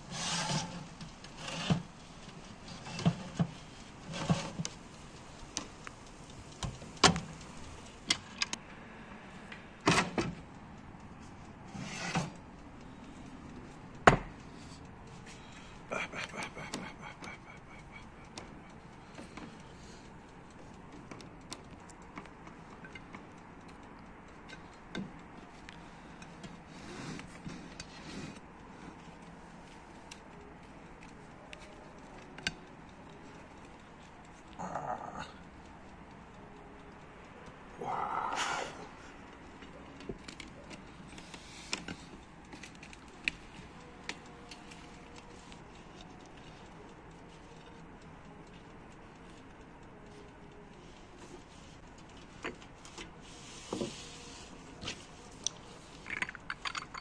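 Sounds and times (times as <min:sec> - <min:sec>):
light clicks and taps: 0:00.6 - 0:08.7, 0:16.7 - 0:38.2, 0:38.8 - 0:57.0.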